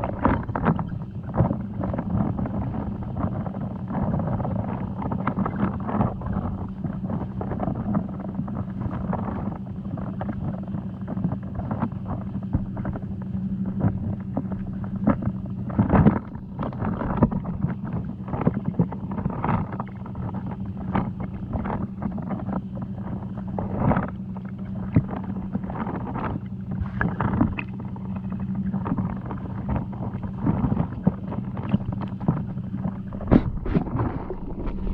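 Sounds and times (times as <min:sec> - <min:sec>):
underwater clicks and knocks: 0:00.0 - 0:04.1, 0:04.7 - 0:08.1, 0:11.1 - 0:34.9
underwater low hum: 0:00.0 - 0:34.9.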